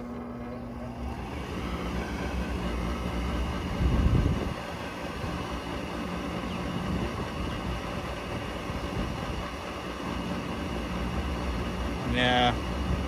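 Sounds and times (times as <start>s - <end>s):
draft motor humming: 0.0s - 13.0s.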